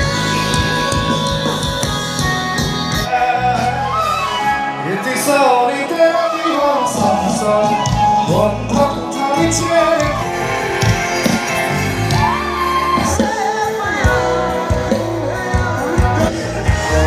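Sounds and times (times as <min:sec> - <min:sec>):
amplified band playing: 0:00.0 - 0:17.0
person singing: 0:00.0 - 0:17.0.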